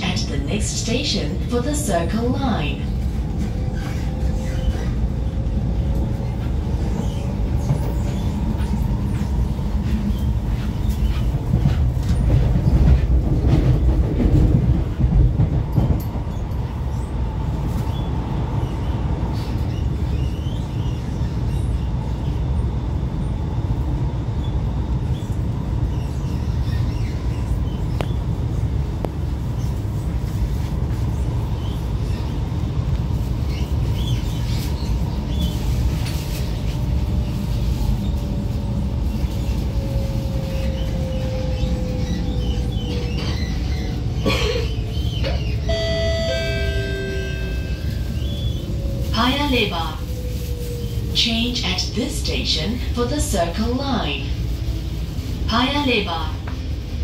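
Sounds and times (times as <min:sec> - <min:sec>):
passing train: 0:00.0 - 0:57.0
train wheels rumbling on rail: 0:00.0 - 0:57.0.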